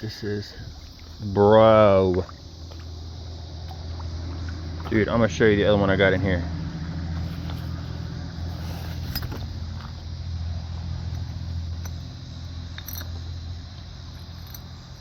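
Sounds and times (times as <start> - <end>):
low rumble: 2.4 - 14.6.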